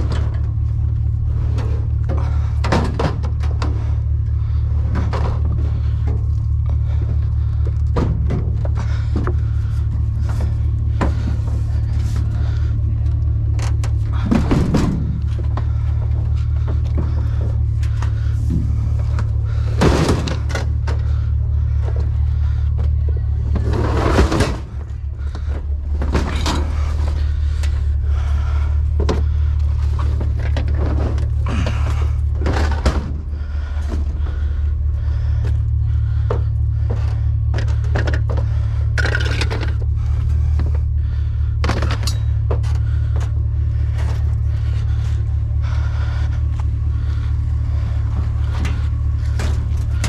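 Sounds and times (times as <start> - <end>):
rattles and knocks: 0.0 - 50.0
vehicle engine droning: 0.0 - 50.0.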